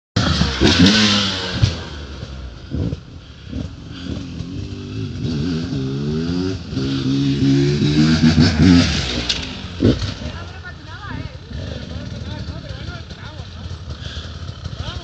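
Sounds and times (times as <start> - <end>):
motorcycle engine revving: 0.2 - 15.0.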